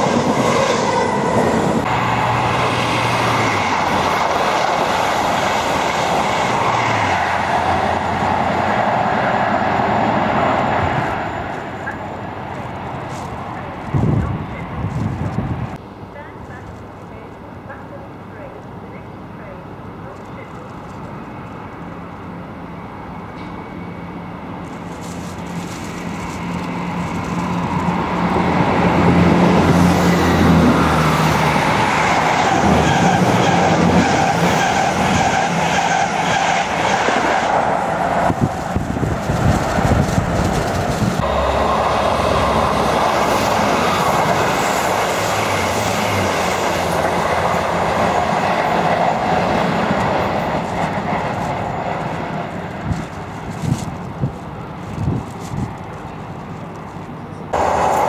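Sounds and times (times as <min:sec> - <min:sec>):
train rumble and rail noise: 0:00.0 - 0:58.0.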